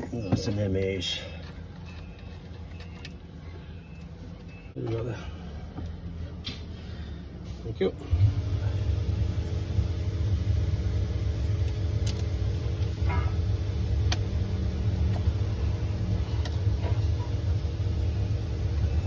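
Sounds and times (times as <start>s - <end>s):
low rumble and hum: 0.0s - 19.0s.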